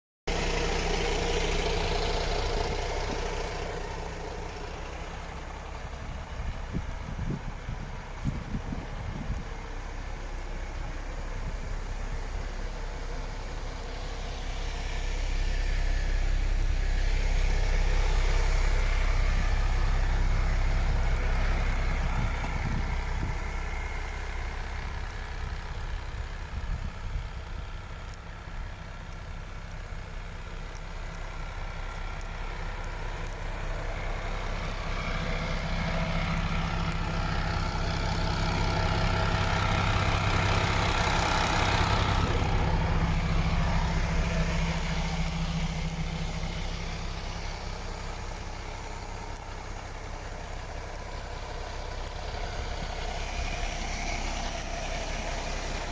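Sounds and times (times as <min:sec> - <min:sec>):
diesel truck engine idling: 0:00.3 - 0:55.9.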